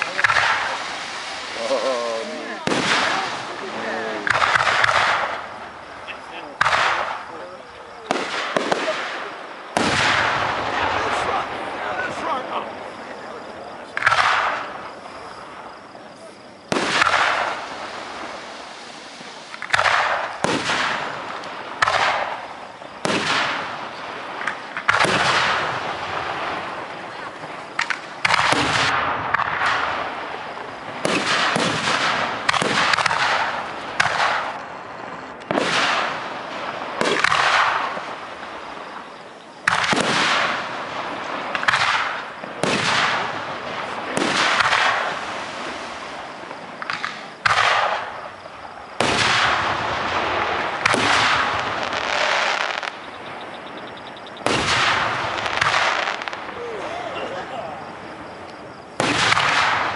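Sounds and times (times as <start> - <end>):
firework shells bursting: 0.0 - 12.2, 16.7 - 56.6, 57.8 - 59.9.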